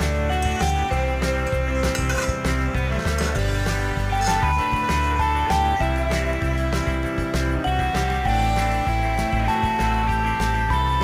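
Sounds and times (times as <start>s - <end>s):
background music with bass and percussion: 0.0s - 11.0s.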